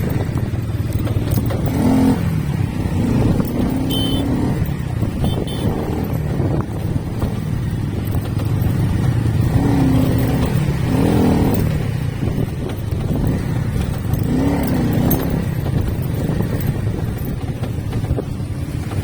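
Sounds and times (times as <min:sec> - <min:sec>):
motorcycle engine rumble: 0:00.0 - 0:19.0
road and wind noise: 0:00.0 - 0:19.0.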